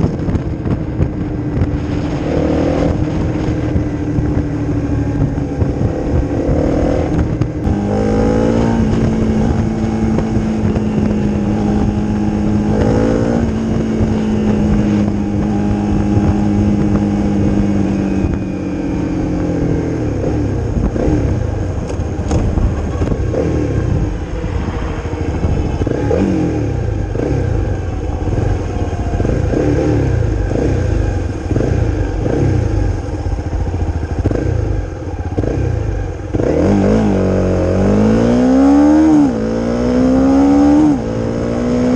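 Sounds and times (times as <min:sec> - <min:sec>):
engine revving: 0:00.0 - 0:41.9
motorcycle engine accelerating: 0:00.0 - 0:41.9.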